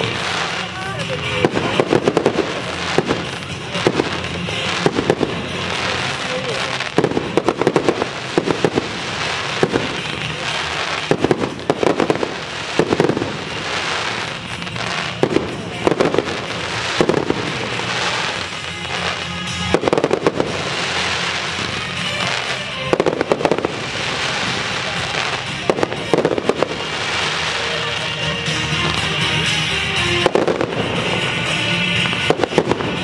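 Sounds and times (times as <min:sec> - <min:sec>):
fireworks bursting with bangs: 0:00.0 - 0:33.0
fireworks crackling: 0:00.0 - 0:33.0
music: 0:00.0 - 0:33.0.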